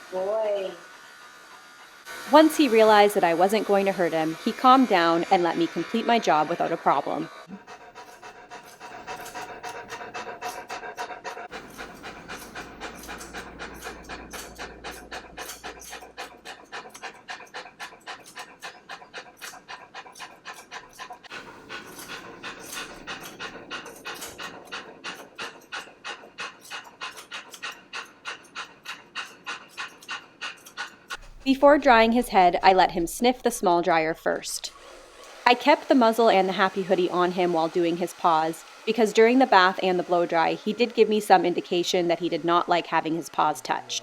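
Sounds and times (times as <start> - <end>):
dog panting: 0.1 - 44.0.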